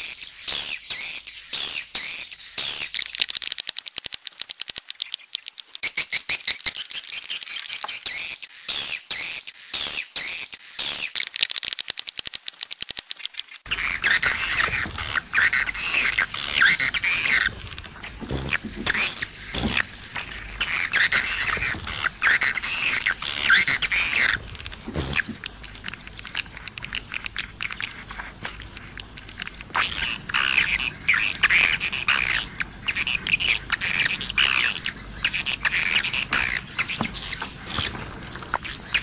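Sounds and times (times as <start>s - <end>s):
fast clicking: 2.6s - 5.9s, 10.8s - 39.0s.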